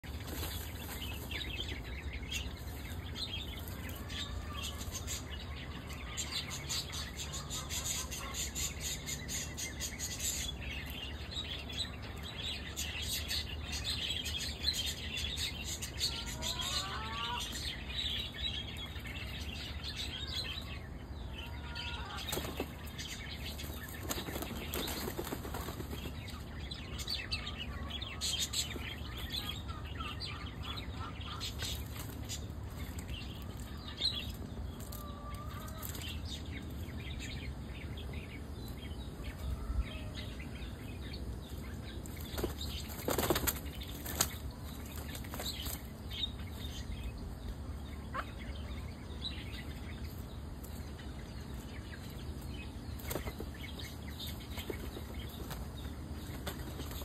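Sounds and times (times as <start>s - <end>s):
steady high background noise: 0.0s - 57.0s.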